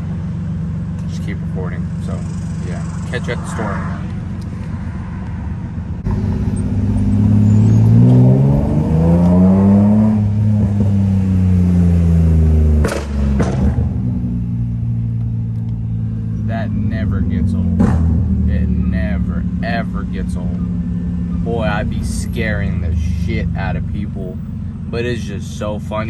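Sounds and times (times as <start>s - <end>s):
car engine accelerating: 0.0s - 26.0s
sharp engine bangs: 1.1s - 15.1s, 15.9s - 26.0s.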